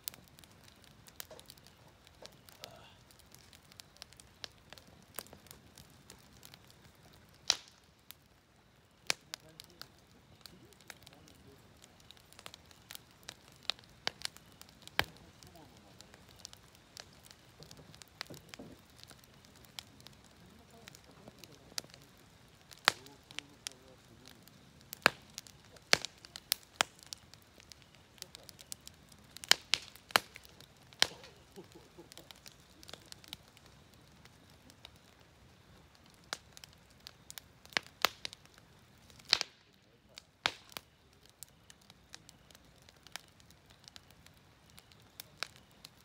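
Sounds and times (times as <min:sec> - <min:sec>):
campfire crackling and popping: 0:00.0 - 0:46.0
faint fire hiss: 0:00.0 - 0:46.0.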